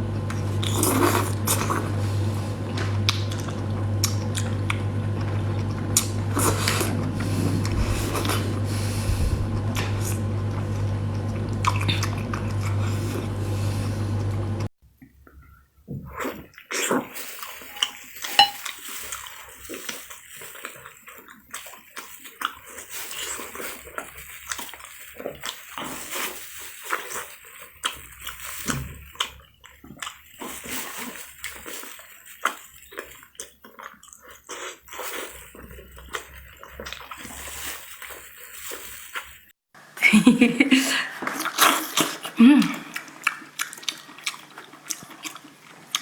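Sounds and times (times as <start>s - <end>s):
wet eating sounds: 0.0s - 39.5s, 40.4s - 46.0s.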